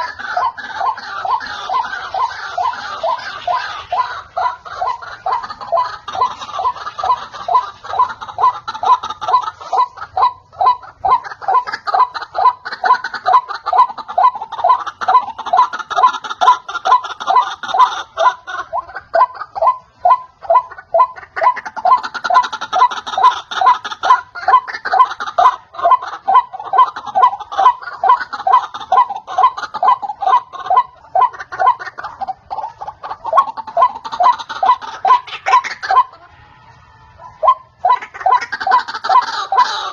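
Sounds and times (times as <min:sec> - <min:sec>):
bird calling harsh repeated notes: 0:00.0 - 0:39.9.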